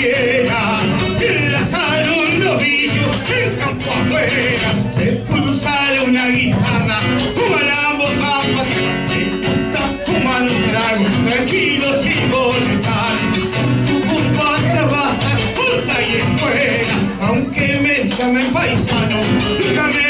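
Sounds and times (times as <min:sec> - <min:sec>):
acoustic guitar accompaniment: 0:00.0 - 0:20.0
person singing: 0:00.0 - 0:20.0.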